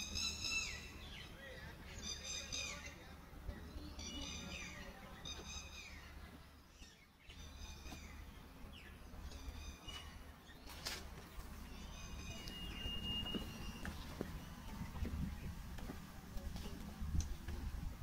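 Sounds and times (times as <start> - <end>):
bird calling: 0.0 - 3.0, 3.7 - 15.5
outdoor background noise: 0.0 - 18.0.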